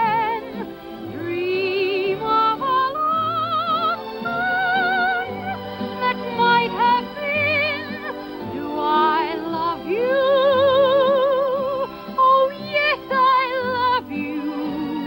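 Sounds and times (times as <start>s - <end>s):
soprano singing with vibrato: 0.0s - 15.0s.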